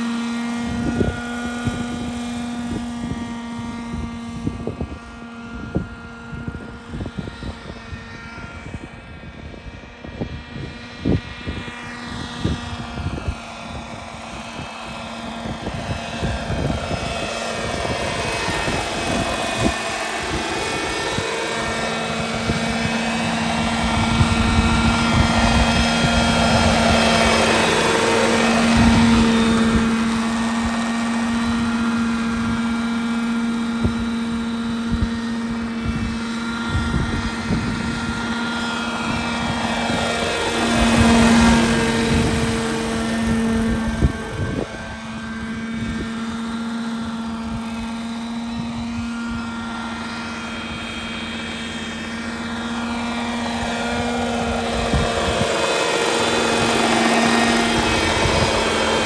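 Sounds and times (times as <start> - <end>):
model helicopter engine and rotors: 0.0 - 59.0.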